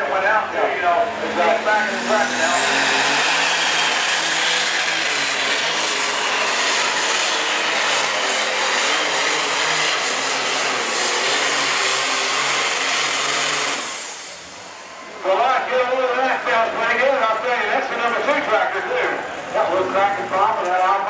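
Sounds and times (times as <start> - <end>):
tractor engine running flat out: 0.0 - 19.8.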